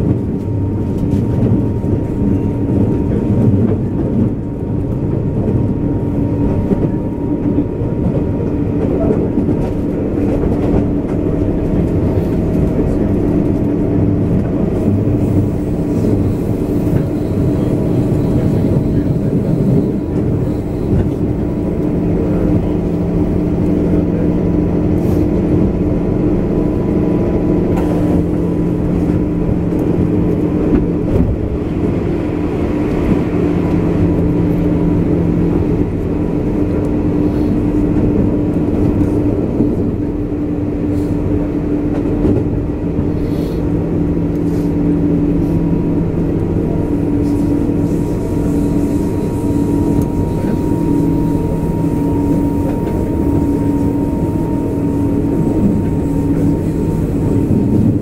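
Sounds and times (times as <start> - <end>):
constant hum: 0.0 - 58.0
wheels rumbling on rail: 0.0 - 58.0.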